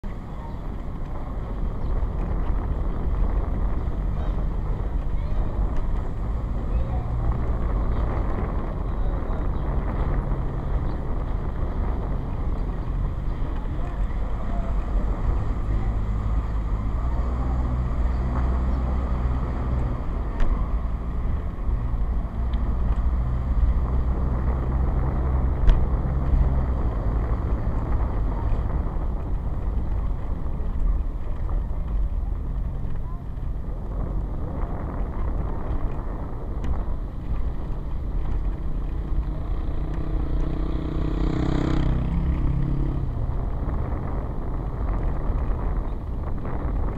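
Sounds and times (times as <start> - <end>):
road and wind noise: 0.0 - 46.9
vehicle engine hum: 0.0 - 46.9.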